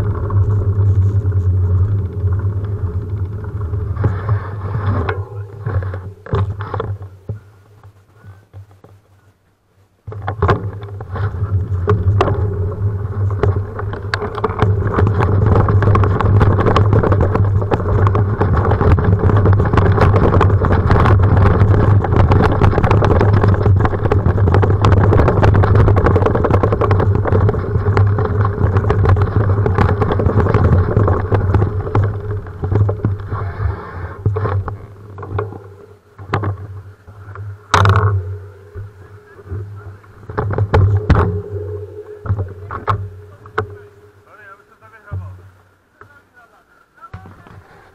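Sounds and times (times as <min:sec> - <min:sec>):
bike rattling and knocking: 0:00.0 - 0:09.0, 0:10.0 - 0:45.4
bicycle rolling over bumpy grass: 0:00.0 - 0:47.9.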